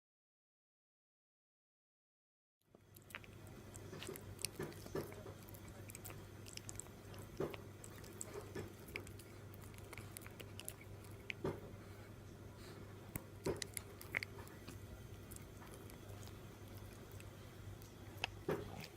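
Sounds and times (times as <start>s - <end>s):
puppy gnawing on a chew: 2.7s - 18.9s
steady low hum: 2.7s - 18.9s.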